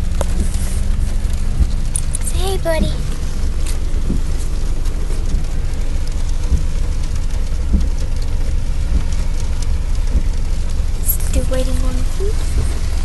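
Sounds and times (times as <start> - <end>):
constant low rumble: 0.0 - 13.0
rain falling on a car: 0.0 - 13.0.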